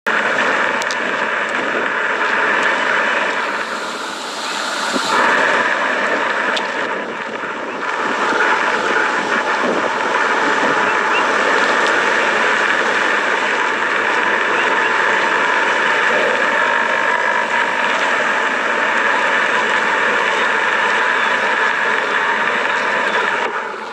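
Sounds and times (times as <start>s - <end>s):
underground rushing roar: 0.0s - 23.9s.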